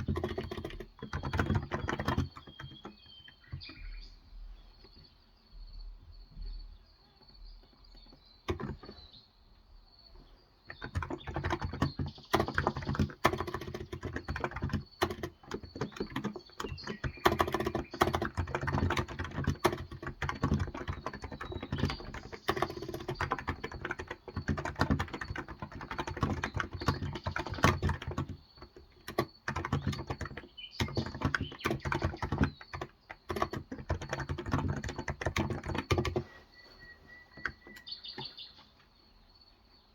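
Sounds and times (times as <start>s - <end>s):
keyboard typing: 0.0s - 4.0s, 7.5s - 9.2s, 10.6s - 38.5s.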